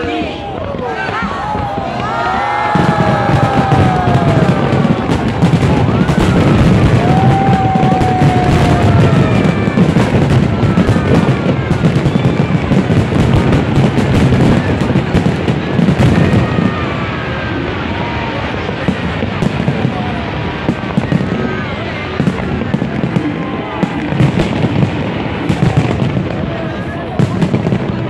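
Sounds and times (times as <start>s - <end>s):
fireworks bursts and crackling: 0.0s - 28.0s.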